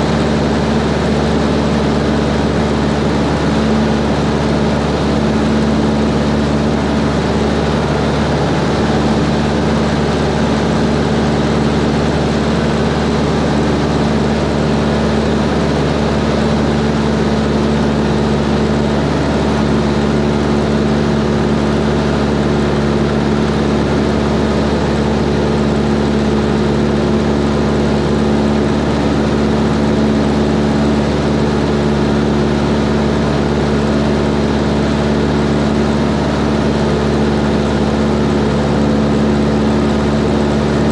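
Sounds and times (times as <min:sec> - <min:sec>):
propeller plane engine running: 0:00.0 - 0:40.9.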